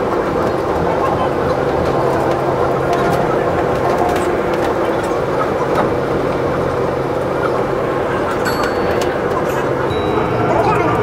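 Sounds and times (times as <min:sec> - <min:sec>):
monorail car rushing noise: 0:00.0 - 0:11.0.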